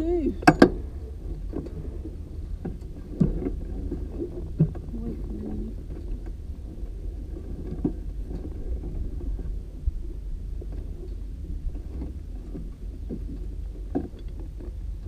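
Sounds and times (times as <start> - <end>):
dragster engine low rumble: 0.0 - 15.0.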